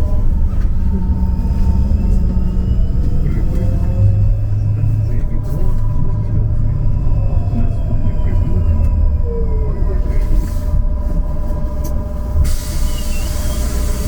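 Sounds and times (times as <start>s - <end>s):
trolleybus low rumble: 0.0s - 14.0s.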